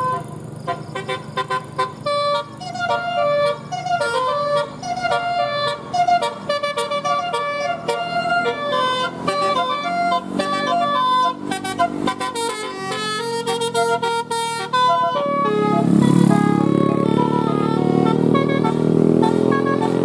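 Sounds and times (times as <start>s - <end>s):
multi-tone bus horn tune: 0.0s - 20.0s.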